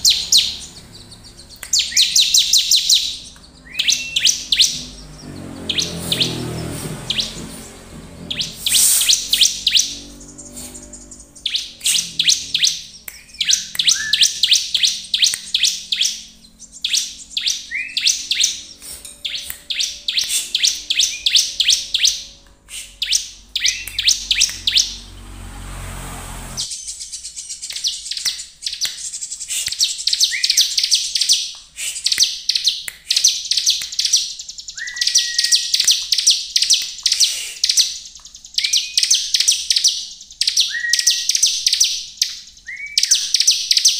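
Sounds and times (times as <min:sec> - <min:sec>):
bird singing high clipped notes: 0:00.0 - 0:43.9.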